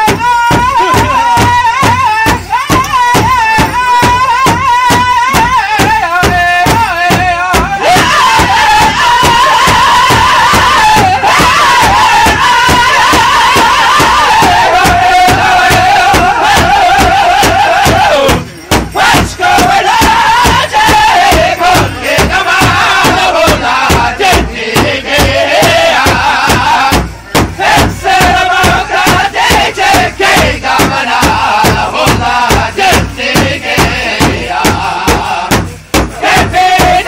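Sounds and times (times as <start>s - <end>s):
large hand drum beating: 0.0s - 37.0s
voices singing high chant: 0.0s - 37.0s.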